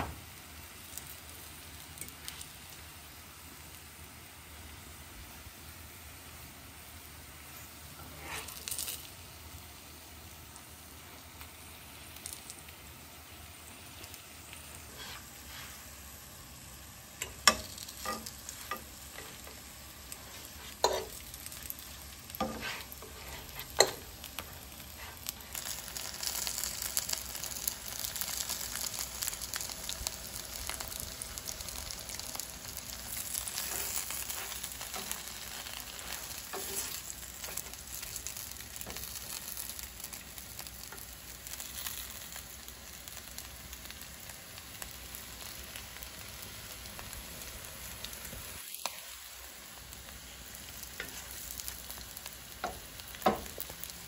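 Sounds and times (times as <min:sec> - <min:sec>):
food sizzling in a skillet: 0:00.0 - 0:54.0.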